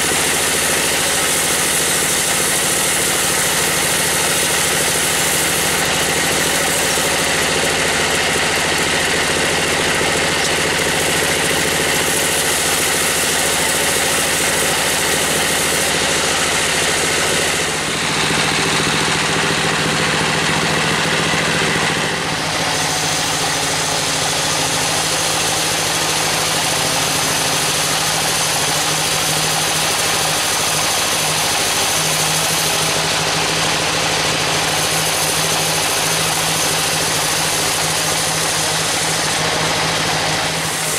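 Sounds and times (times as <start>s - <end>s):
bandsaw running: 0.0s - 40.9s
blade sawing through board: 0.0s - 40.9s.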